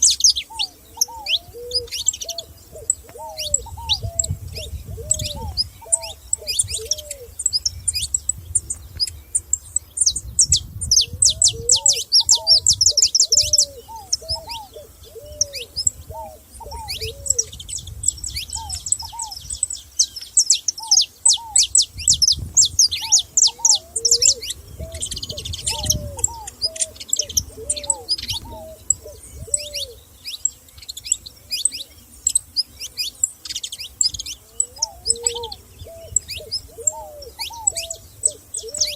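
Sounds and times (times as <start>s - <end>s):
low arching bird call: 0.0s - 38.9s
songbirds chirping and trilling: 0.0s - 38.9s.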